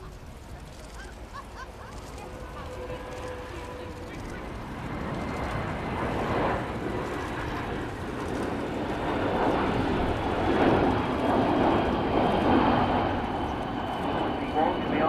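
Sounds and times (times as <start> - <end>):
jet aircraft flypast: 0.0 - 15.0.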